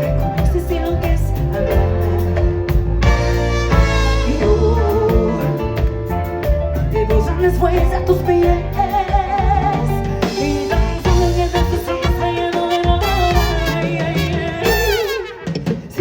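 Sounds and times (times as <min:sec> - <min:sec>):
live latin pop band: 0:00.0 - 0:16.0
person singing: 0:00.0 - 0:16.0.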